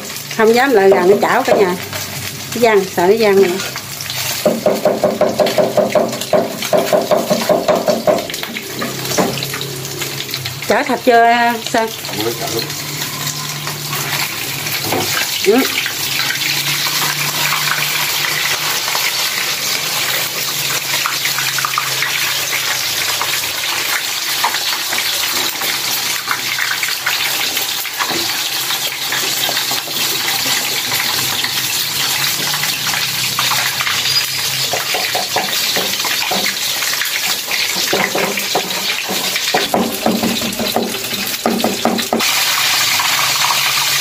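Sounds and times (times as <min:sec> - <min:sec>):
fish sizzling in hot oil: 0:00.0 - 0:44.0
oil crackling and popping: 0:00.0 - 0:44.0.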